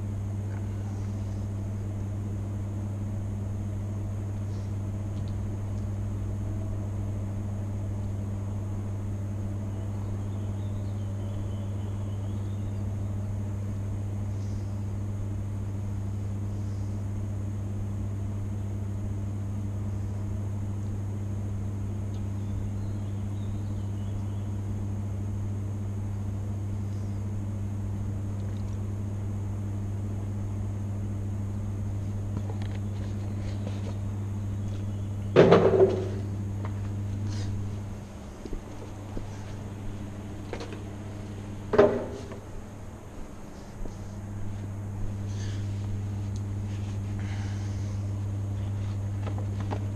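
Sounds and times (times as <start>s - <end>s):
faint high whine: 0.0s - 49.9s
steady low hum: 0.0s - 49.9s.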